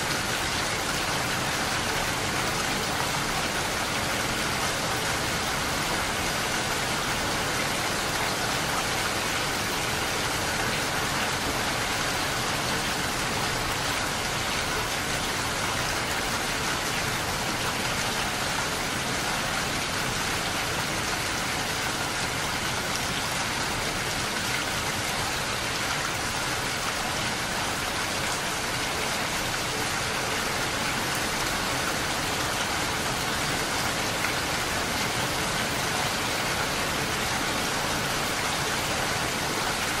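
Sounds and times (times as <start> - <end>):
rain on a window pane: 0.0 - 40.0.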